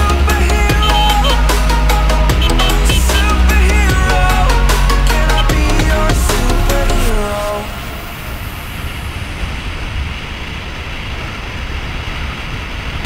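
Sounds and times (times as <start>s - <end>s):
wind rumble: 0.0s - 13.0s.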